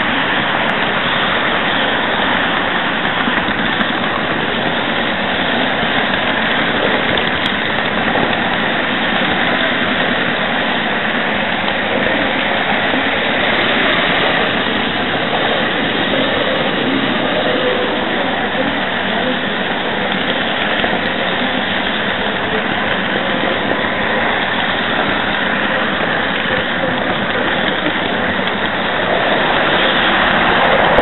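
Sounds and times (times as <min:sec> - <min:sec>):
model train whirring: 0:00.0 - 0:31.0.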